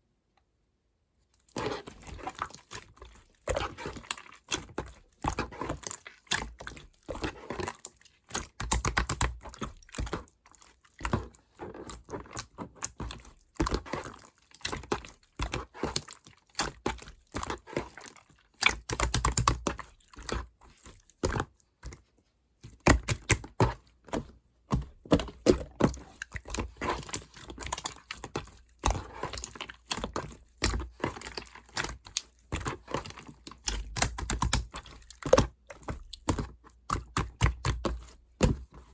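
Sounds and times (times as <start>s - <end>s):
slime squished by hand: 1.4s - 22.0s, 22.7s - 38.9s.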